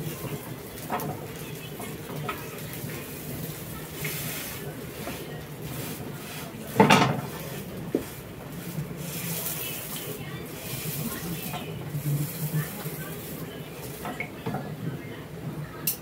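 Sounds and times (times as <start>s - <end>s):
bread frying in a pan: 0.0s - 14.6s.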